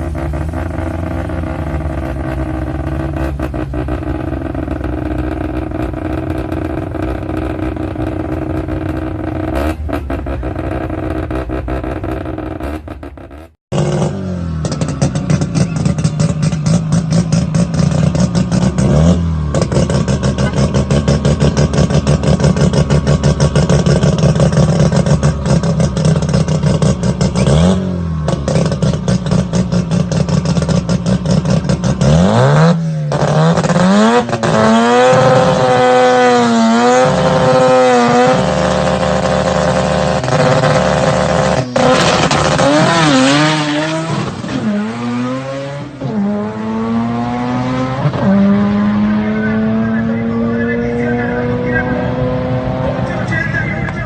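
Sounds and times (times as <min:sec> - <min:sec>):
rotary engine idling and revving: 0:00.0 - 0:54.0.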